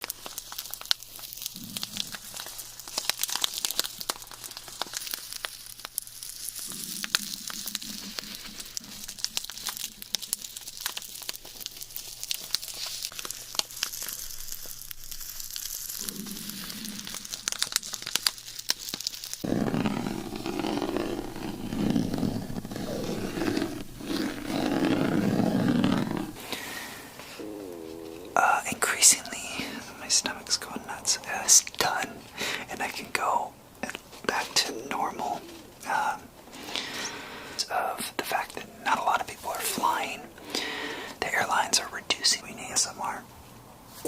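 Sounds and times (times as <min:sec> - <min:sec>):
stomach growling: 0:00.0 - 0:33.2, 0:33.8 - 0:37.7, 0:38.6 - 0:41.2
crackly crinkling: 0:00.0 - 0:44.0.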